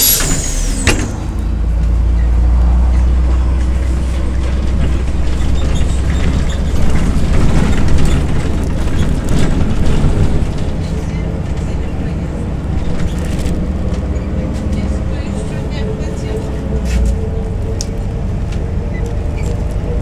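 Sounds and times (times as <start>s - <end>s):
bus diesel engine rumble: 0.0s - 20.0s.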